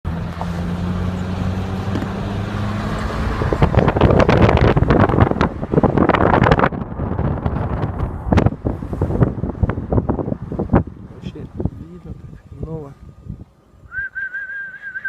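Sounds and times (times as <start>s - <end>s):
wind buffeting microphone: 1.5s - 14.2s.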